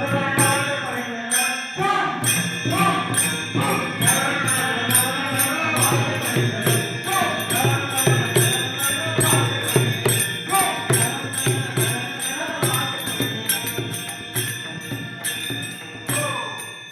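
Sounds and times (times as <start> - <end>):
person singing devotional song: 0.0 - 16.9
small metal hand cymbals: 0.0 - 16.9.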